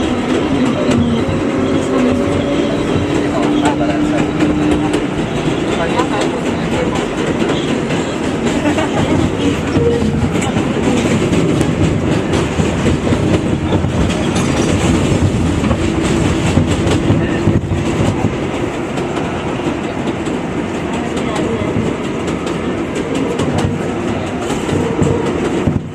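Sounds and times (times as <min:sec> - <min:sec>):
subway train rumbling: 0:00.0 - 0:25.9
wheels clicking over rails: 0:00.0 - 0:25.9.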